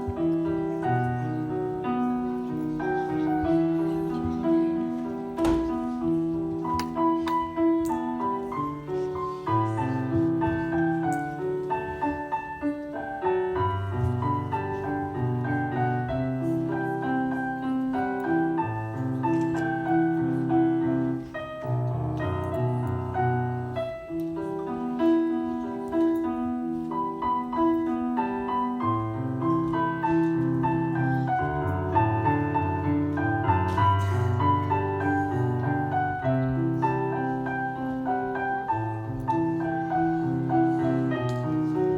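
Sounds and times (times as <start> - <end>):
piano music: 0.0 - 41.9.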